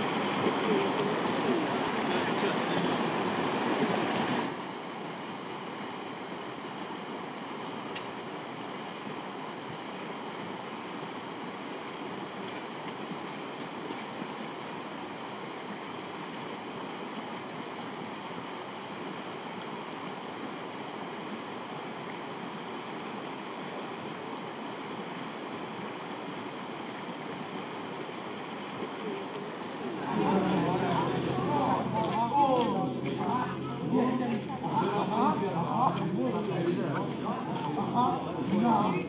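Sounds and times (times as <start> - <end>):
rushing running water: 0.0 - 39.0.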